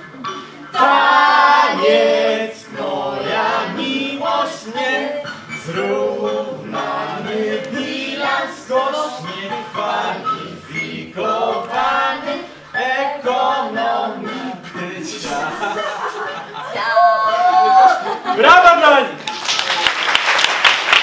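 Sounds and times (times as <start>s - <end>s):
group singing: 0.0s - 18.3s.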